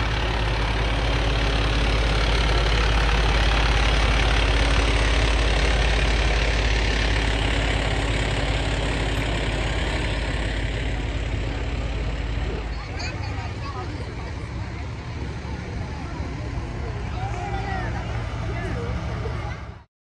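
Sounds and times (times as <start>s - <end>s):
diesel truck driving past: 0.0s - 19.9s.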